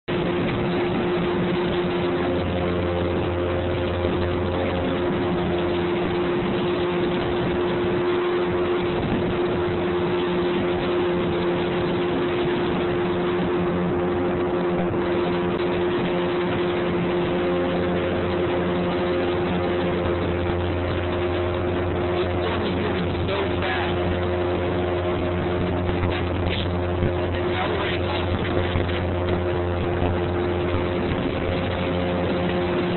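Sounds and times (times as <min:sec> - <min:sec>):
motorboat engine humming: 0:00.0 - 0:32.9.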